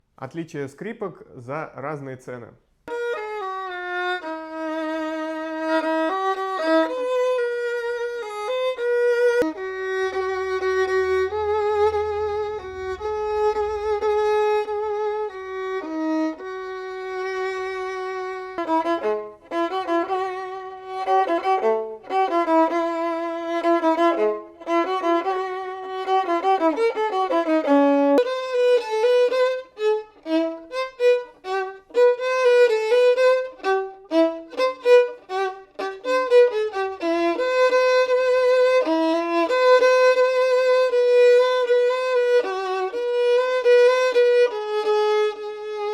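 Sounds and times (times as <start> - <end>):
solo violin melody: 2.8 - 45.9.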